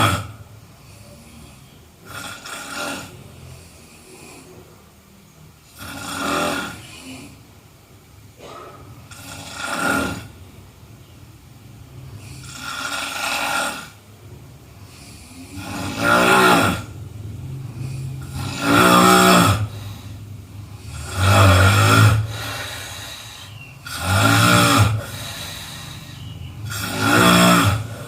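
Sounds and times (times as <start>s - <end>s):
person snoring: 0.0s - 4.8s, 5.6s - 7.4s, 8.4s - 10.4s, 11.9s - 14.0s, 14.8s - 28.0s
quiet breathing: 0.0s - 28.0s.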